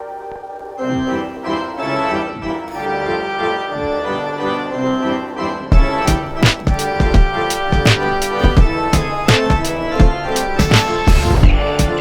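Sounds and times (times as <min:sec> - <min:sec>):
organ-like keyboard chords: 0:00.0 - 0:12.0.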